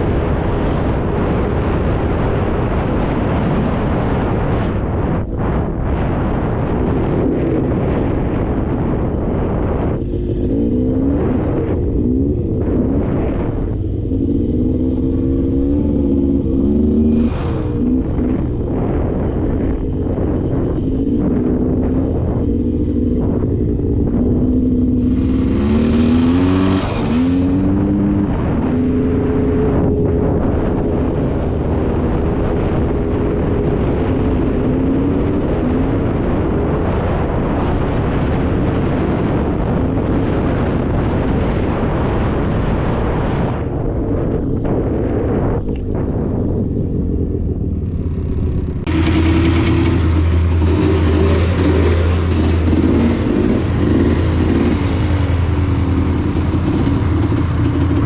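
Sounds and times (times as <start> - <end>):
atv engine revving: 5.9 - 41.5, 47.0 - 58.0.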